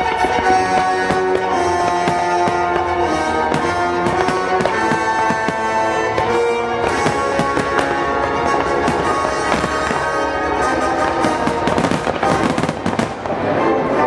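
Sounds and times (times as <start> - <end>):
fireworks bangs and crackles: 0.0 - 14.0
music: 0.0 - 14.0.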